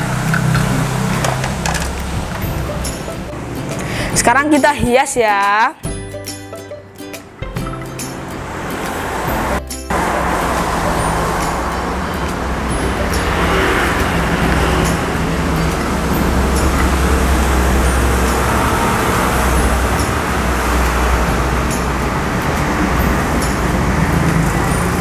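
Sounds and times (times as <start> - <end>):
loud rumbling traffic noise: 0.0 - 25.0.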